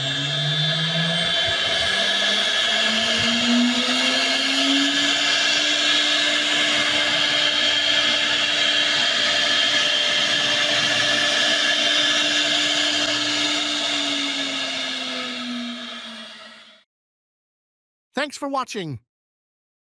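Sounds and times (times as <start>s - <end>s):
router spindle whine: 0.0s - 16.8s.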